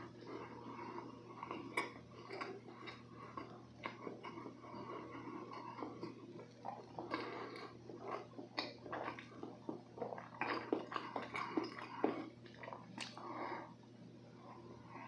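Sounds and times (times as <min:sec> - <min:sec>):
chewing soft cake: 0:00.0 - 0:15.0.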